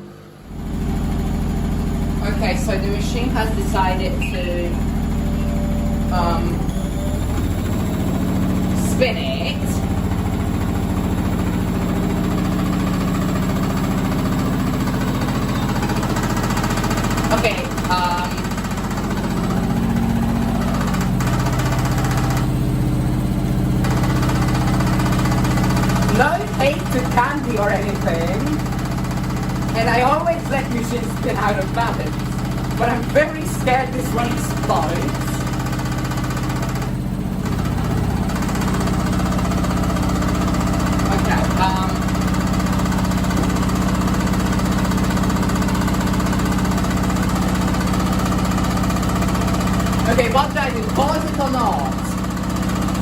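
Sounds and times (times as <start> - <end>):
motor hum: 0.0 - 53.0
washing machine drum knocking: 0.4 - 53.0.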